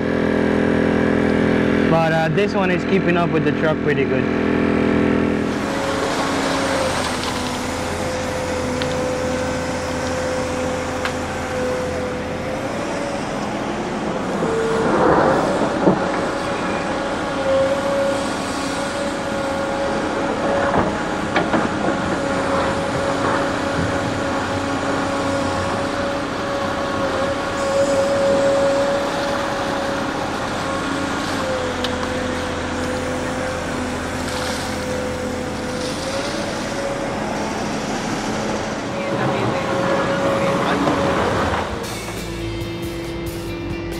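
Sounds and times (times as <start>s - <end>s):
excavator engine and hydraulics whining: 0.0s - 43.9s.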